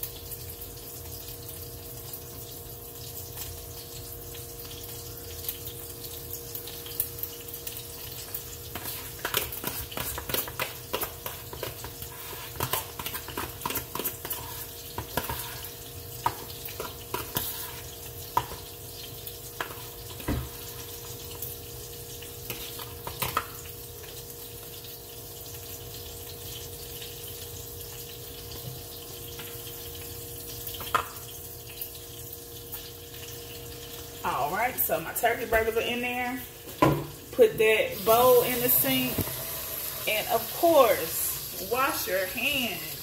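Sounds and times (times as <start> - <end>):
patties sizzling in a pan: 0.0 - 43.0.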